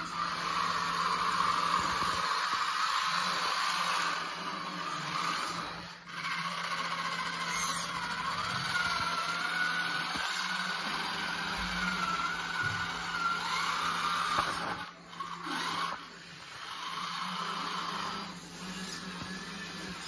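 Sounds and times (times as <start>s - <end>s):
electric motors and gears whining: 0.0s - 20.0s.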